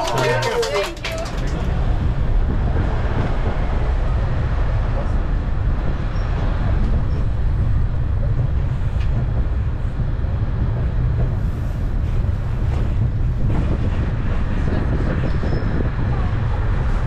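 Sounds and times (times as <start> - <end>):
road train rumbling: 0.0 - 17.0.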